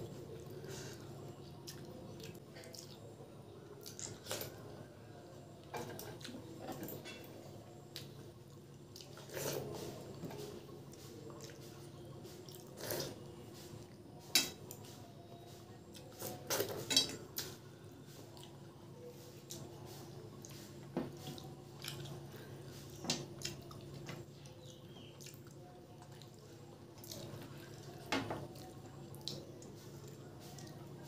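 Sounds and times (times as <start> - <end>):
chewing and wet mouth sounds: 0.2 - 3.1, 3.7 - 4.7, 7.9 - 14.0, 15.6 - 31.0.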